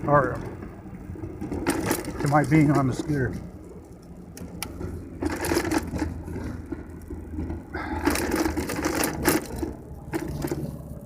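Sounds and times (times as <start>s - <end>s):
scooter engine humming: 0.0s - 11.0s.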